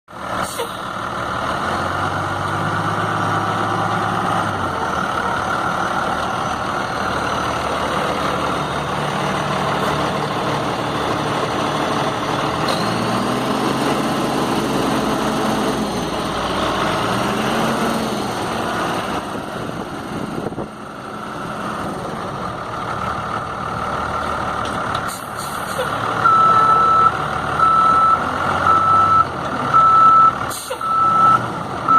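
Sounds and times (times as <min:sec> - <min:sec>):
diesel truck engine idling: 0:00.2 - 0:31.9.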